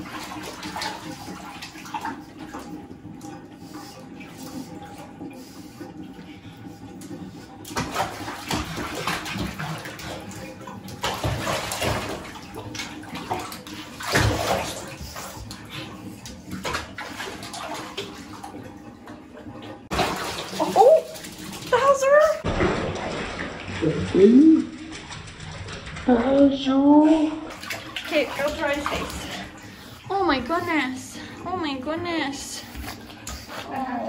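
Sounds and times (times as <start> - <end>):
puppy splashing in water: 0.0 - 34.0.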